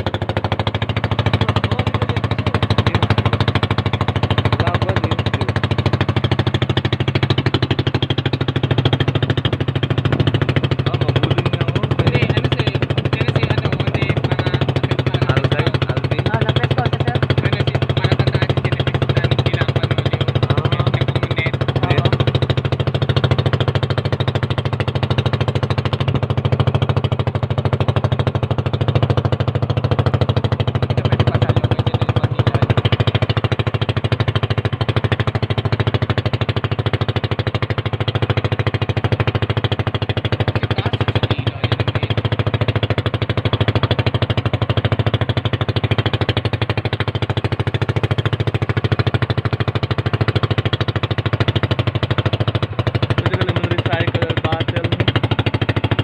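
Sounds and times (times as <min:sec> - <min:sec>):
small boat engine running: 0:00.0 - 0:56.0.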